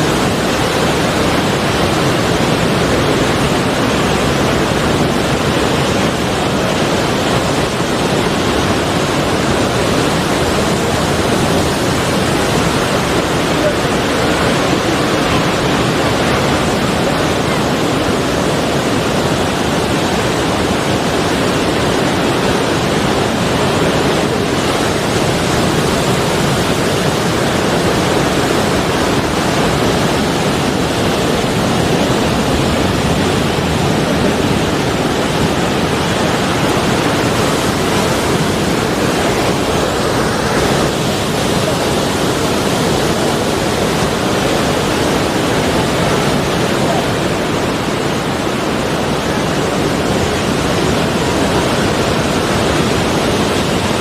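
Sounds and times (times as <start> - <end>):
sea waves washing on shore: 0.0 - 54.0.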